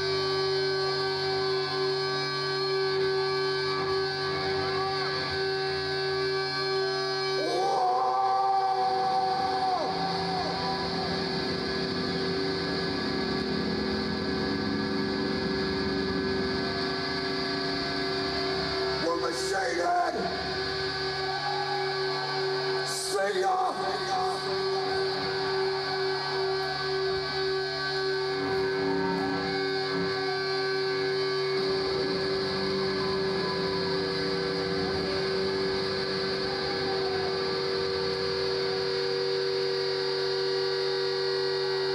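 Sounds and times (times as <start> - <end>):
electric guitar feedback drone: 0.0 - 41.9
high feedback whine: 0.0 - 41.9.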